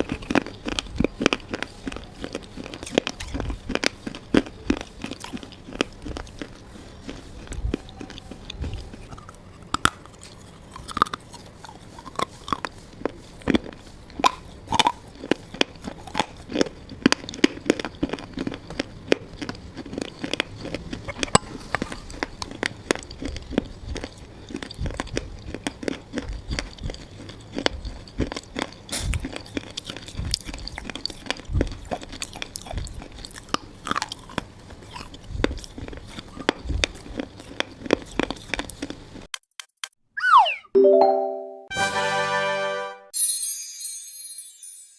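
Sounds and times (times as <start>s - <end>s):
chewing brittle pieces: 0.0s - 39.3s.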